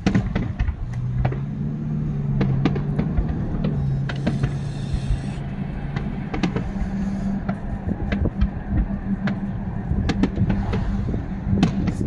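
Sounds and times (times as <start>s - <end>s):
fireworks popping and banging: 0.0s - 12.0s
low rumble: 0.0s - 12.0s
steady low hum: 0.0s - 12.0s.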